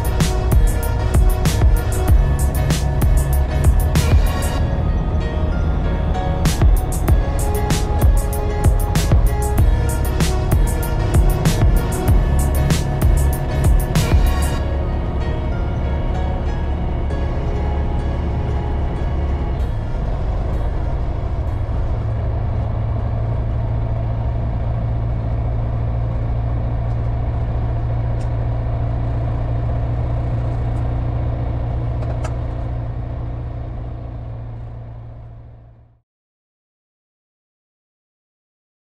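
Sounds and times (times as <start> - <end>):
ultralight aircraft engine and propeller: 0.0 - 35.6.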